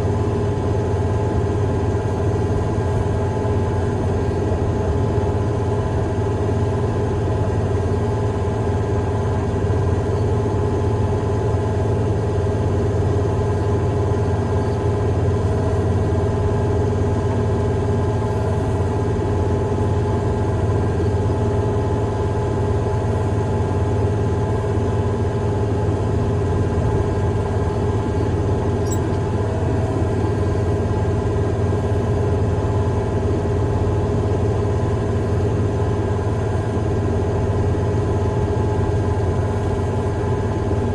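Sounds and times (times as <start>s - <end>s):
heavy equipment engine drone: 0.0s - 40.9s.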